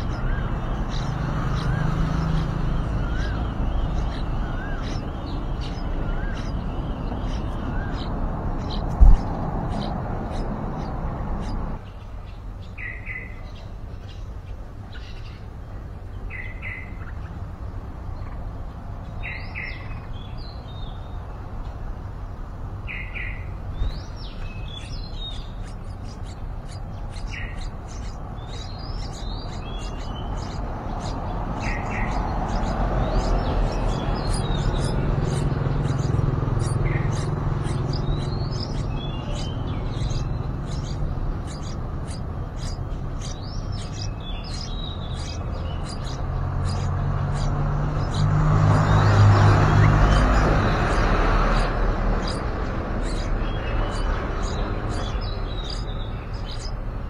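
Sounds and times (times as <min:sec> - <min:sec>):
nestlings begging chirps: 0:00.0 - 0:57.0
songbird paired chirps: 0:00.0 - 0:57.0.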